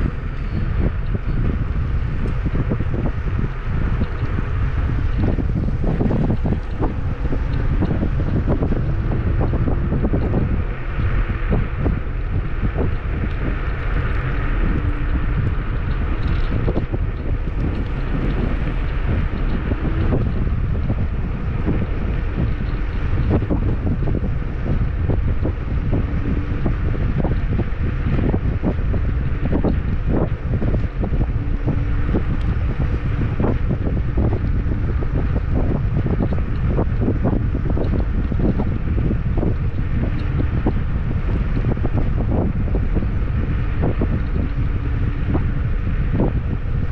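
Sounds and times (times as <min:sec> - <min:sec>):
faint hum: 0:00.0 - 0:46.9
wind buffeting microphone: 0:00.0 - 0:46.9.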